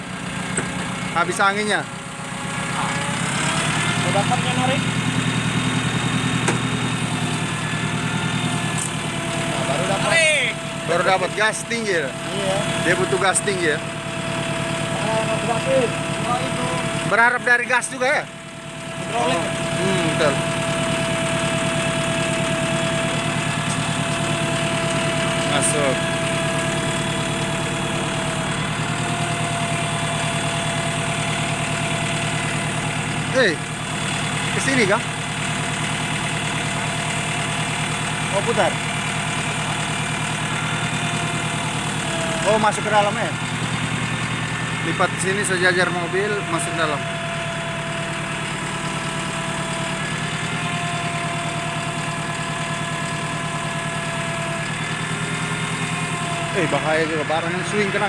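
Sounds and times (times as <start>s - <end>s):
hydraulic crane whine: 0.0s - 58.0s
truck engine running: 0.0s - 58.0s.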